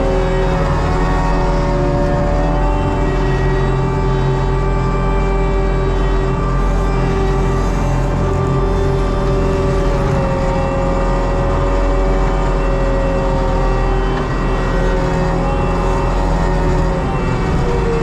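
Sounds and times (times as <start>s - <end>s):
track loader engine and hydraulics: 0.0s - 18.0s.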